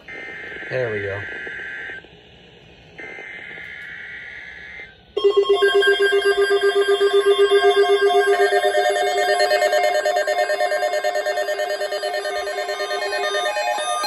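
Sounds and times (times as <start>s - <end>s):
pulsing alarm tone: 0.0s - 2.1s, 3.0s - 14.0s
buzzy digital data burst: 0.1s - 2.0s, 4.1s - 14.0s.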